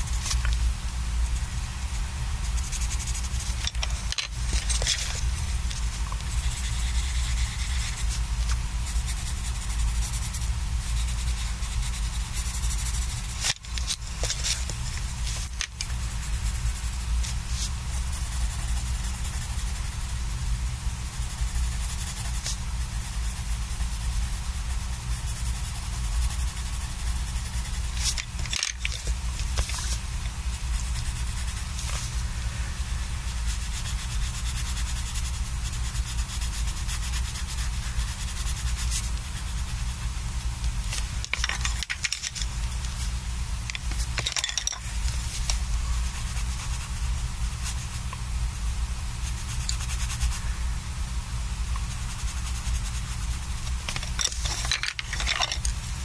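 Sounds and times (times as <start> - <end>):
steady low hum: 0.0 - 56.0
pencil scratching on paper: 1.2 - 20.2, 21.0 - 32.2, 32.8 - 40.1, 43.8 - 48.1, 49.2 - 50.4, 51.7 - 56.0.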